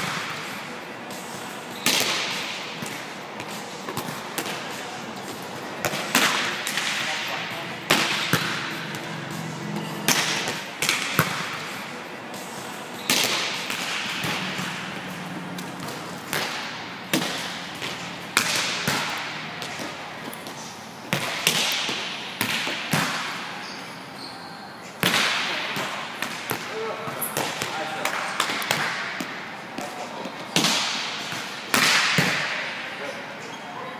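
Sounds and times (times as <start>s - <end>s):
volleyball slaps echoing: 1.8s - 11.7s, 13.0s - 23.6s, 25.0s - 32.9s.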